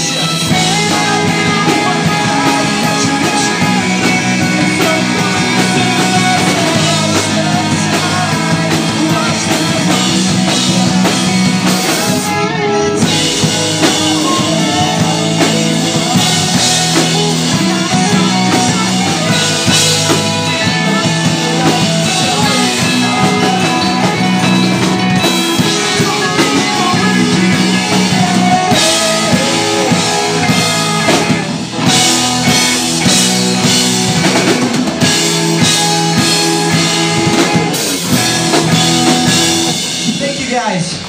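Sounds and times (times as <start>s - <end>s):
person singing: 0.0s - 40.0s
drum kit: 0.0s - 41.0s
electric guitars: 0.0s - 41.0s.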